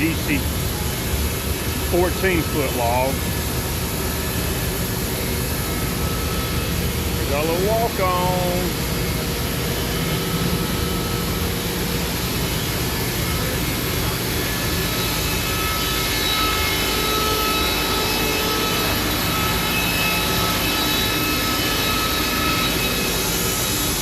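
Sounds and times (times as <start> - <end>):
faint high whine: 0.0 - 24.0
sawmill running: 0.0 - 24.0.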